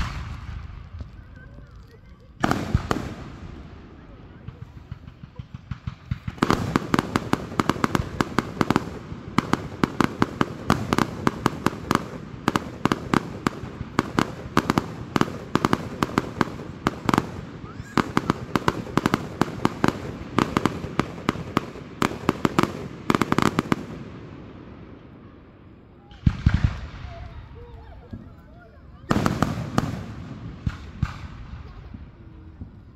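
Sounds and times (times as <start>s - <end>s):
fireworks bursting: 0.0s - 32.9s.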